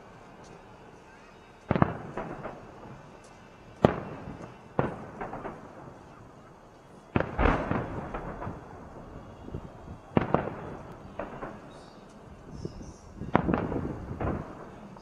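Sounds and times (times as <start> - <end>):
fireworks bursting: 0.0 - 15.0
fireworks crackling: 0.0 - 15.0.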